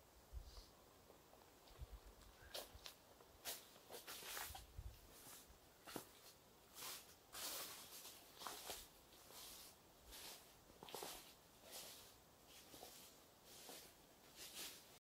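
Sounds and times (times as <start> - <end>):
footsteps crunching dry leaves: 2.5 - 15.0.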